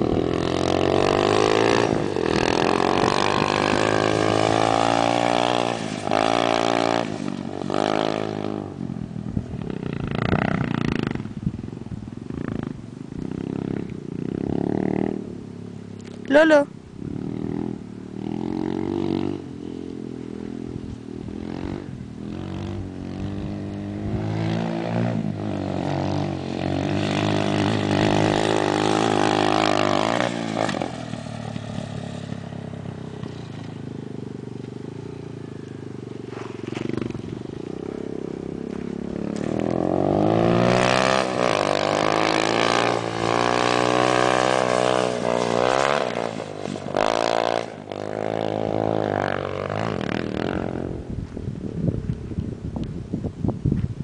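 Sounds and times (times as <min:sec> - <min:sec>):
motorcycle engine revving: 0:00.0 - 0:52.4.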